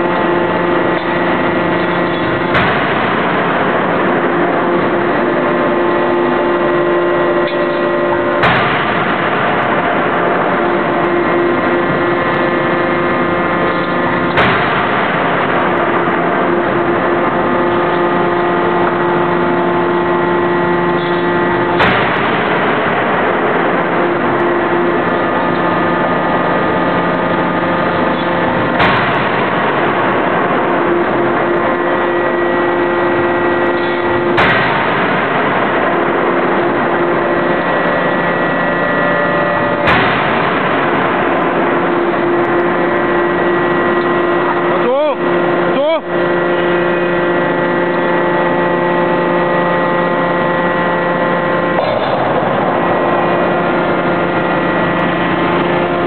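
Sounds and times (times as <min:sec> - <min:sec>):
forging hammer blows: 0:00.0 - 0:56.0
machine hum: 0:00.0 - 0:56.0.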